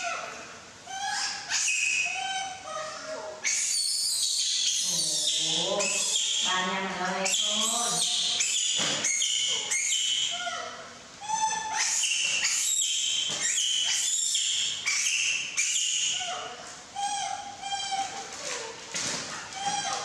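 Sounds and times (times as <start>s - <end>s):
baby monkeys squealing: 0.0s - 20.0s.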